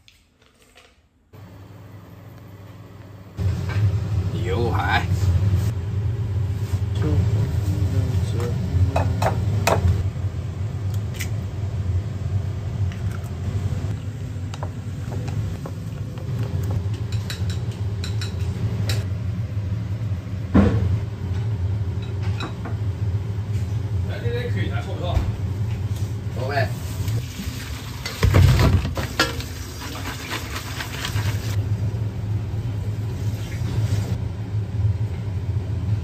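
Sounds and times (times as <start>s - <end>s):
low kitchen hum: 0.0s - 36.0s.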